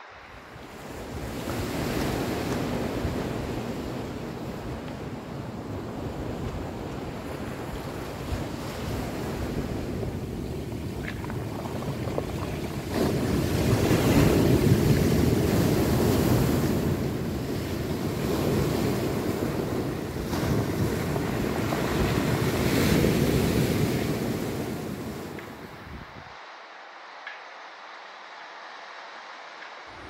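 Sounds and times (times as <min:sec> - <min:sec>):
wind buffeting microphone: 0:00.0 - 0:26.4
sea surf washing on shore: 0:00.0 - 0:30.0.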